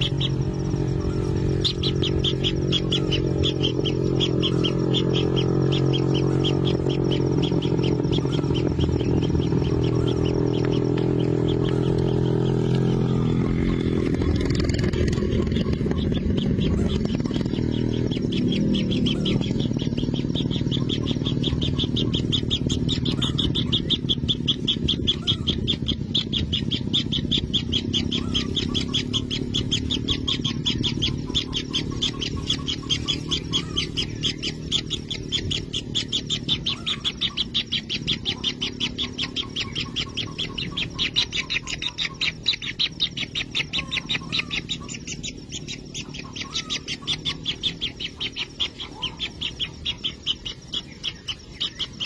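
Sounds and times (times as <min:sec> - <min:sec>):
nestlings churring: 0:00.0 - 0:52.0.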